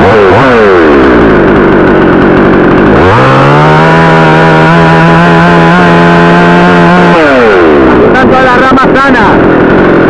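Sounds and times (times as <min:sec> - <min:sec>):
chainsaw revving and cutting: 0:00.0 - 0:10.0.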